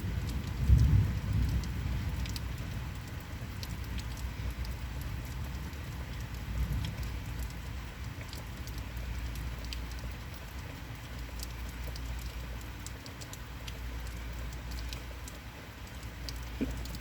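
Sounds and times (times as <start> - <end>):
constant low rumble: 0.0 - 17.0
heavy rain falling: 0.0 - 17.0
raindrops pattering close by: 0.0 - 17.0.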